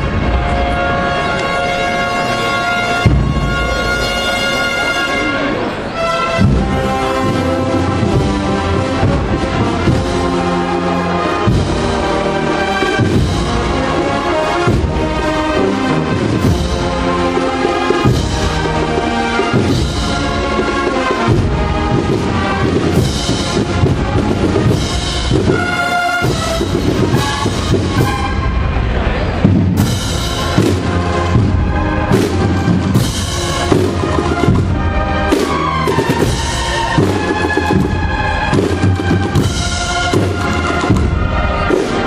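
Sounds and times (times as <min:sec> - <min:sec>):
brass band marching music: 0:00.0 - 0:42.0.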